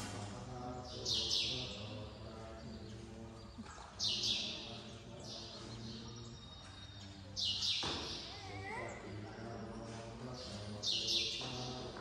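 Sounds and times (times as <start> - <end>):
monks chanting in monotone: 0.0 - 12.0.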